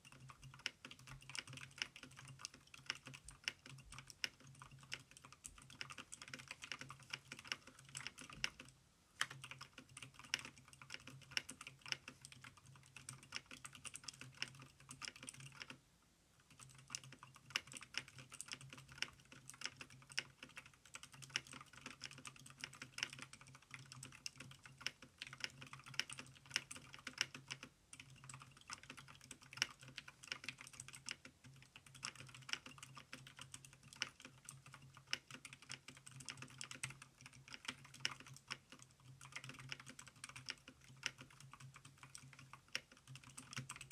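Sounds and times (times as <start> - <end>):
mechanical keyboard typing: 0.0 - 15.8, 16.4 - 43.9.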